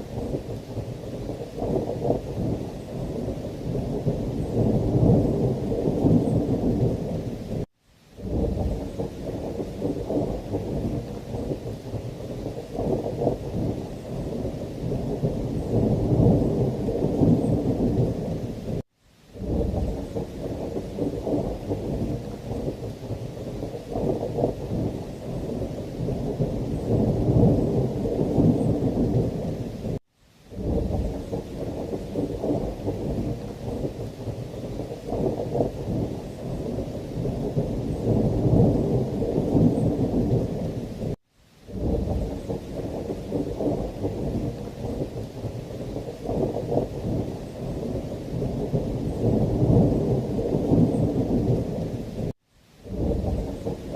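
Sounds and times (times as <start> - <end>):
low rumbling thunder: 0.0 - 18.8, 19.4 - 53.9
heavy rain: 0.0 - 53.9.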